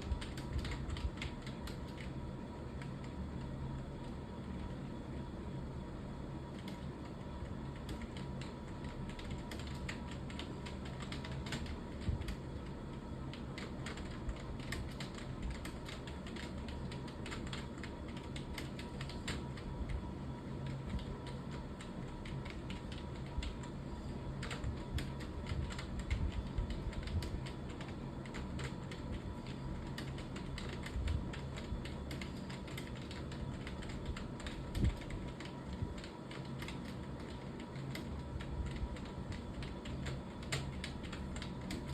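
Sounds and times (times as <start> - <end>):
computer keyboard typing: 0.0 - 4.9, 6.4 - 41.9
steady low hum: 0.0 - 41.9.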